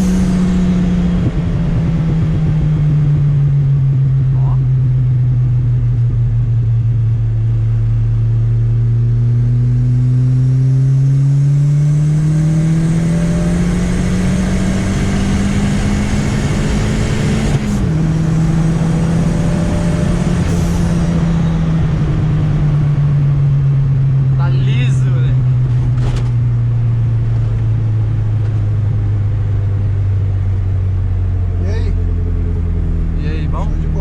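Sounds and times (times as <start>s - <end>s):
car engine under load: 0.0s - 34.0s.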